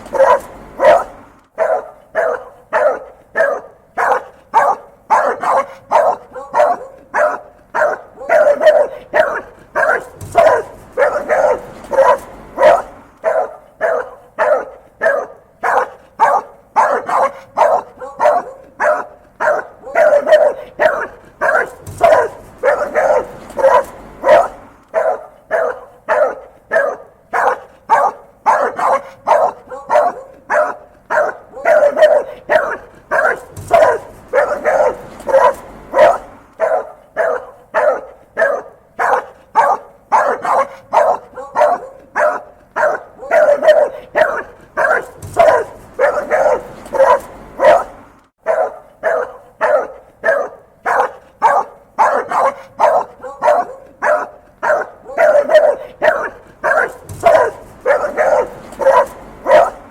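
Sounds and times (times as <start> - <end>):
dog barking: 0.0 - 59.9.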